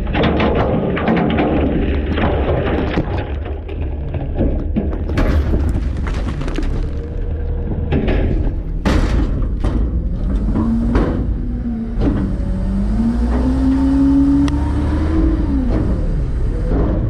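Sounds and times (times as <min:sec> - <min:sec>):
garbage truck engine and hydraulics: 0:00.0 - 0:17.0.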